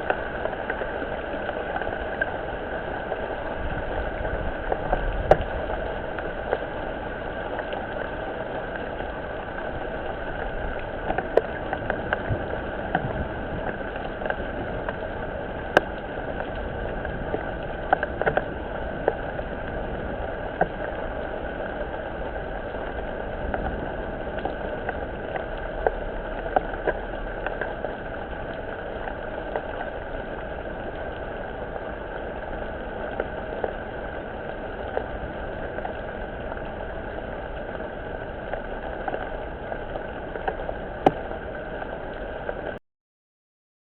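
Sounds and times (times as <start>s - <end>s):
rain falling steadily: 0.0s - 42.8s.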